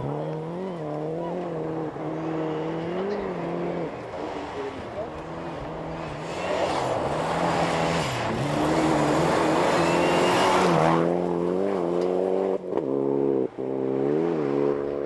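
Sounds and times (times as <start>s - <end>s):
rally car engine: 0.0s - 15.0s.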